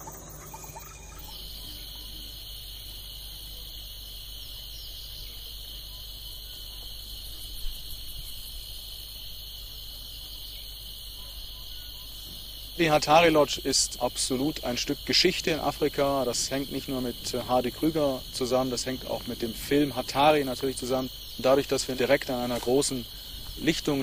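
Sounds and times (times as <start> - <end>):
insects buzzing trill: 0.0 - 24.0.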